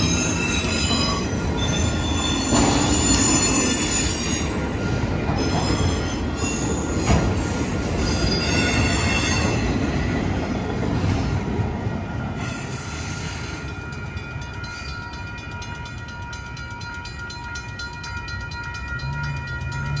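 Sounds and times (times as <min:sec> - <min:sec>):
crossing bell ringing: 0:00.0 - 0:10.5, 0:12.3 - 0:20.0
freight train rolling past: 0:00.0 - 0:20.0.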